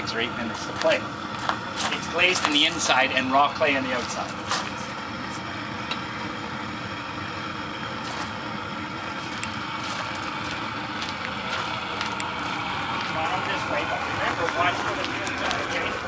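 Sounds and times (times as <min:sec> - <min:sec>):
kiln burner rushing: 0:00.0 - 0:16.0.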